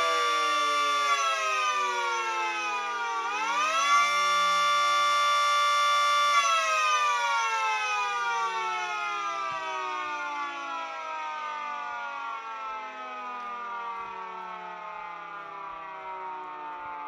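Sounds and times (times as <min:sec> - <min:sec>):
miniature siren wailing: 0:00.0 - 0:17.0.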